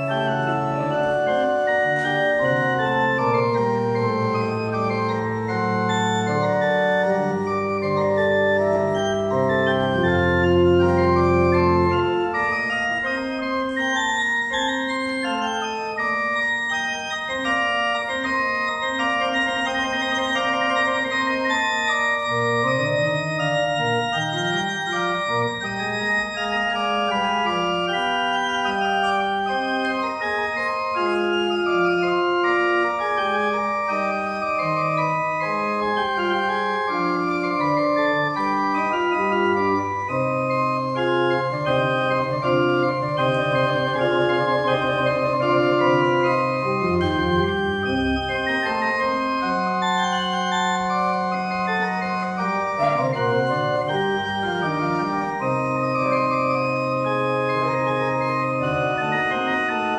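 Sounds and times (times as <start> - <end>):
organ playing: 0.0 - 59.9.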